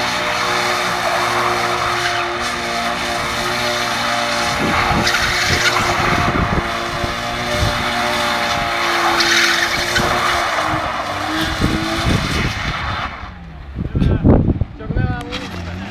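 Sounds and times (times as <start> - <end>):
tyres squealing: 0.0 - 13.4
car engine revving high: 0.0 - 15.9.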